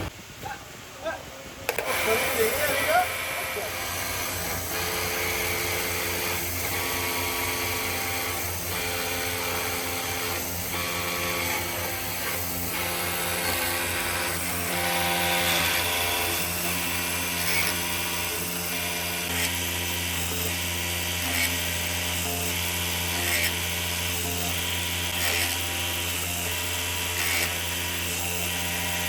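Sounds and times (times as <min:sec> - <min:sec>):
electric motor humming: 0:01.7 - 0:29.0.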